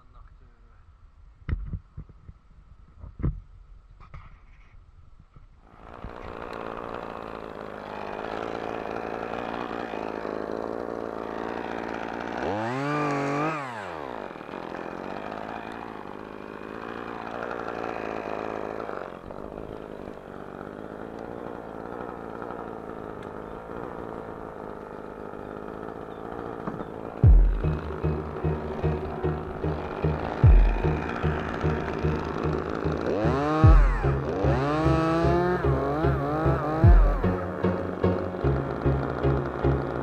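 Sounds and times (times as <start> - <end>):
chainsaw engine revving: 5.6 - 40.0.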